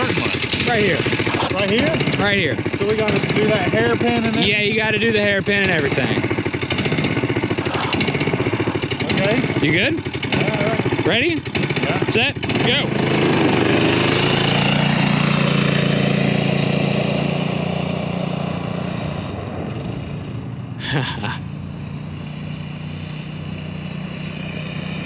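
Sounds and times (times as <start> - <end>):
go-kart engine running: 0.0 - 25.0.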